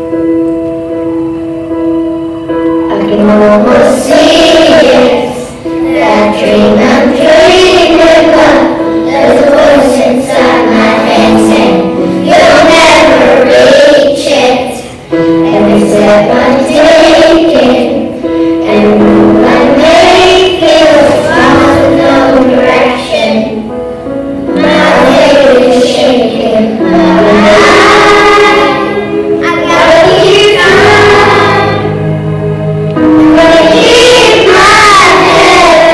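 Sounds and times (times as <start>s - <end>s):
children singing in unison: 2.9s - 23.8s, 24.5s - 32.3s, 32.9s - 35.9s.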